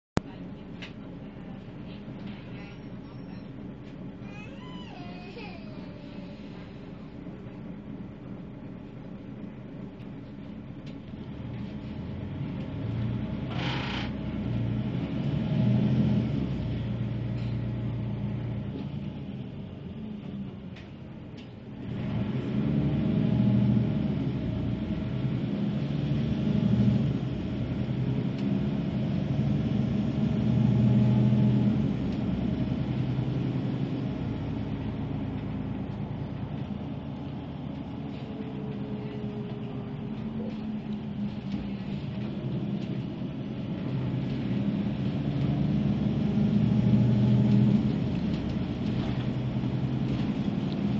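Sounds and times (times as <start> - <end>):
bus engine accelerating: 0.2 - 50.9.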